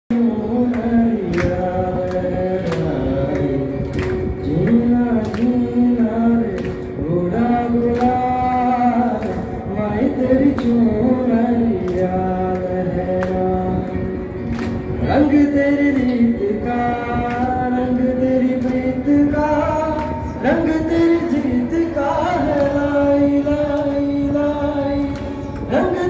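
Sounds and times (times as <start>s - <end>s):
karaoke backing track with beat: 0.1s - 26.0s
man singing into a microphone: 0.1s - 26.0s.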